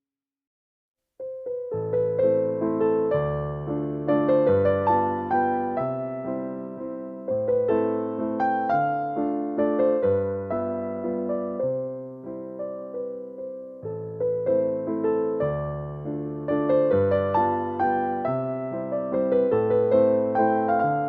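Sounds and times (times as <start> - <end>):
gentle piano music: 1.2 - 21.0.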